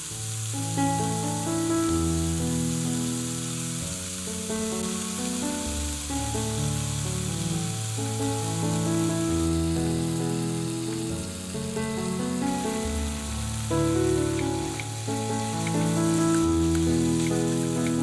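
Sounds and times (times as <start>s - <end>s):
slow sustained chord music: 0.0s - 18.0s
stems sizzling in a wok: 0.0s - 18.0s.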